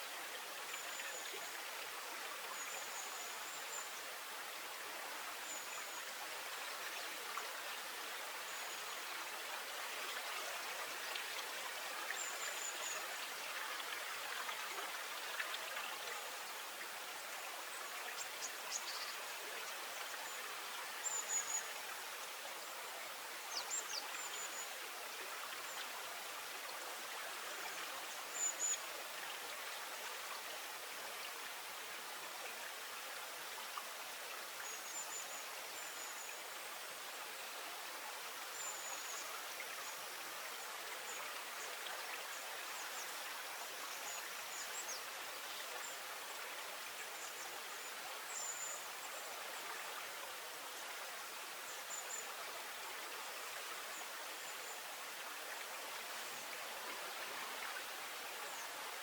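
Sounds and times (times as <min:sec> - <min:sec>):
flowing water: 0:00.0 - 0:59.0.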